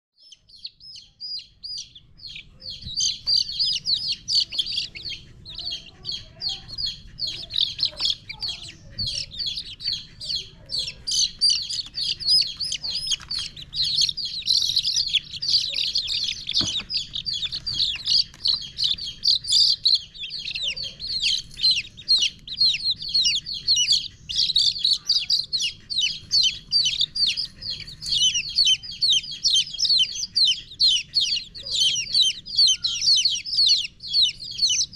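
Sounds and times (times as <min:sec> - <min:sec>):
baby chicks peeping: 0:00.2 - 0:34.9.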